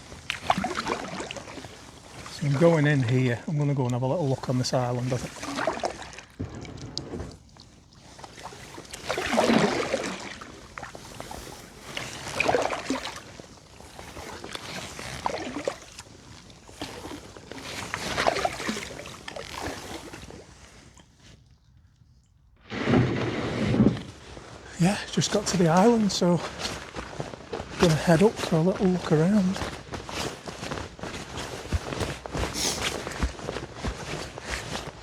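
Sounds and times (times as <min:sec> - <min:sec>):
paddle splashing in water: 0:00.0 - 0:21.2, 0:22.6 - 0:35.0.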